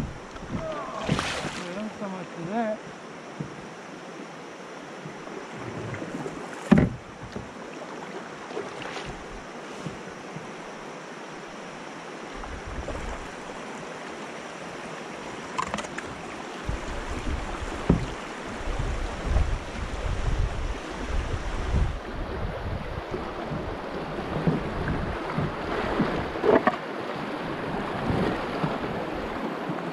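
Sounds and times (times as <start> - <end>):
river water rushing and splashing: 0.0 - 29.9.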